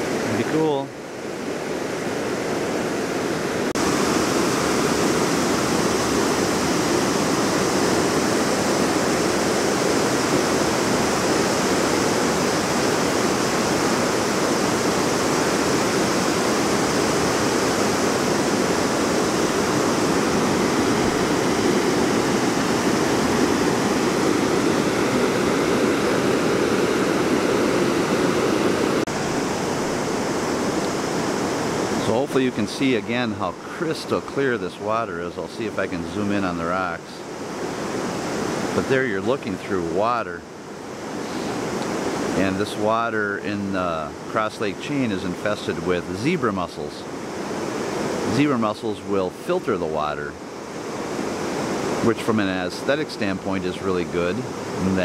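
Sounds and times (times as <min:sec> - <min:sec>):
water rushing over dam: 0:00.0 - 0:55.0.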